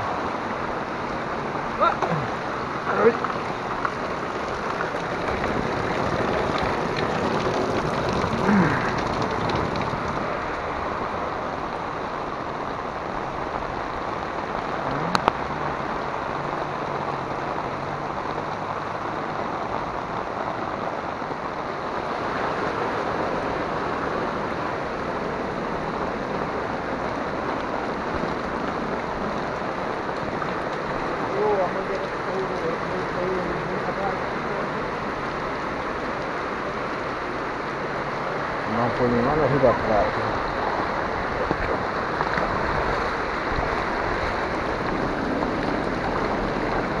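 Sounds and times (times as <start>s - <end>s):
heavy rain on flooded street: 0.0s - 47.0s
water running over road: 0.0s - 47.0s.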